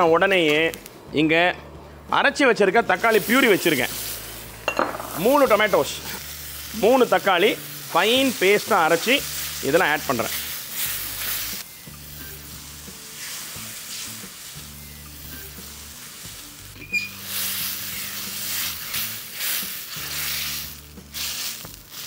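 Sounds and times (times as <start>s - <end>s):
food sizzling in a pan: 3.0s - 22.0s.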